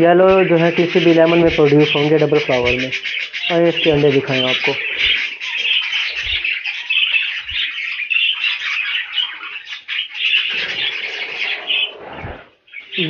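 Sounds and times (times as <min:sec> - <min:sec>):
budgerigars chattering and chirping: 0:00.0 - 0:13.0.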